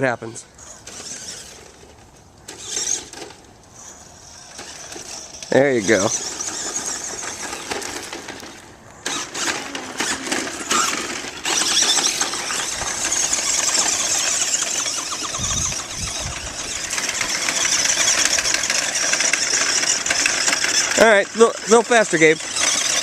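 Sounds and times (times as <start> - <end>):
rc truck motor and gears whining: 0.0 - 23.0.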